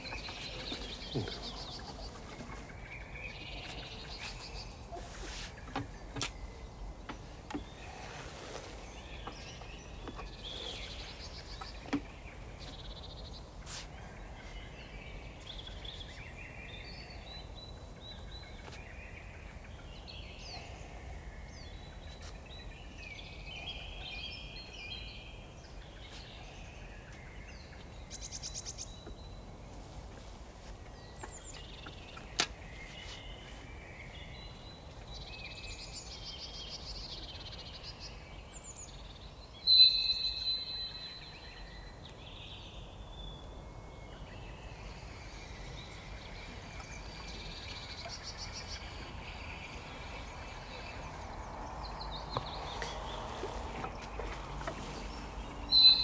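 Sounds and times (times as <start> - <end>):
low background noise: 0.0 - 56.0
songbirds singing and calling: 0.0 - 56.0.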